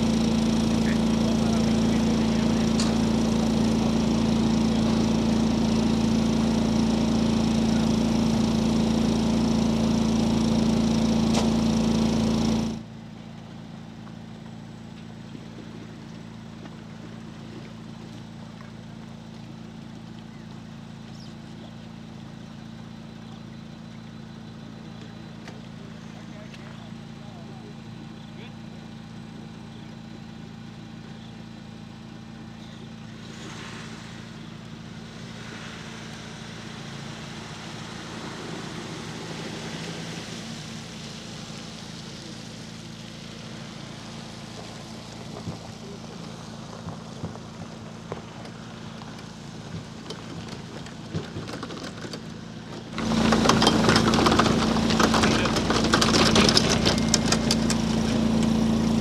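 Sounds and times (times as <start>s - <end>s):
engine idling with low hum: 0.0s - 59.0s.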